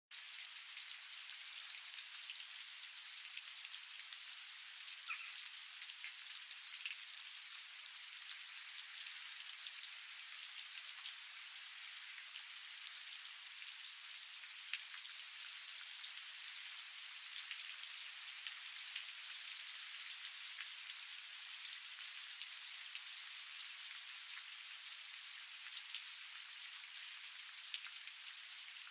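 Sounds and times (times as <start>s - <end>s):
steady rain falling: 0.1s - 28.9s.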